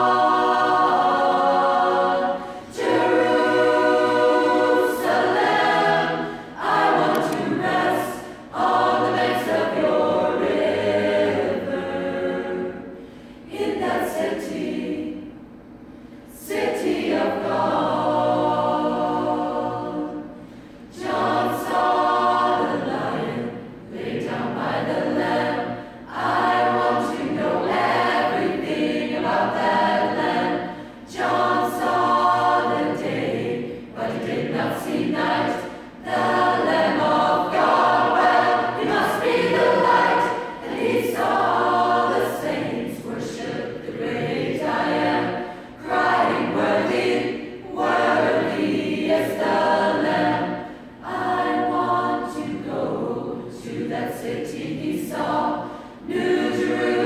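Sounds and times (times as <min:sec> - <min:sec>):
choir singing unaccompanied: 0:00.0 - 0:15.6, 0:16.3 - 0:57.0.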